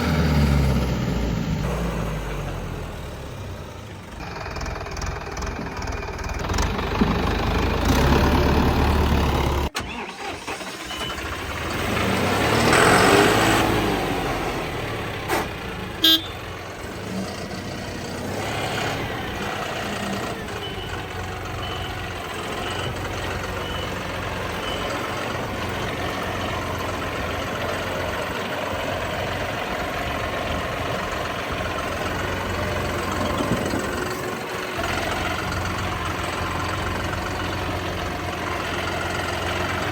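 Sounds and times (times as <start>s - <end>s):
tractor diesel engines running: 0.0s - 39.9s.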